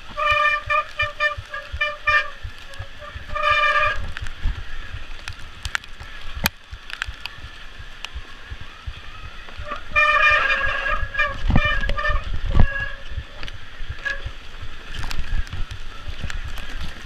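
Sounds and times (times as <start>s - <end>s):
bike rattling over dirt trail: 0.0s - 17.0s.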